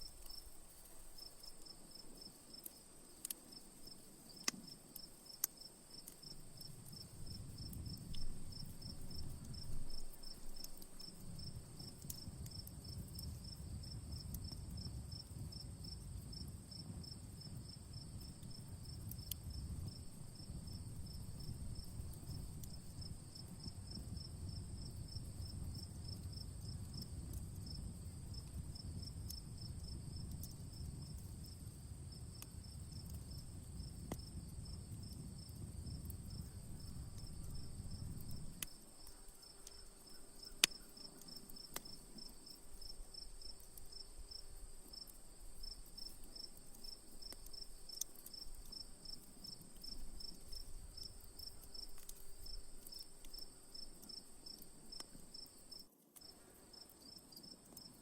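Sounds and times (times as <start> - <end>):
crickets chirping: 0.0 - 58.0
insect drone: 0.0 - 58.0
wood fire crackling: 0.0 - 58.0.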